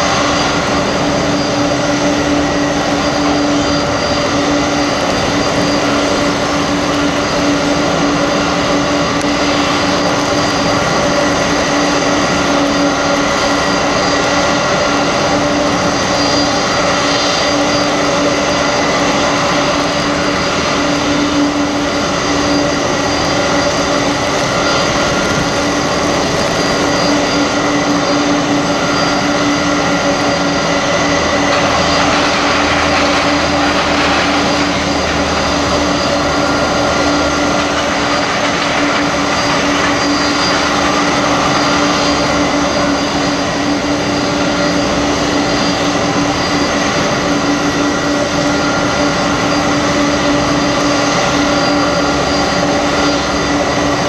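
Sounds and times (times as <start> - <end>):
jet turbine whine: 0.0 - 54.0
rushing noise: 0.0 - 54.0.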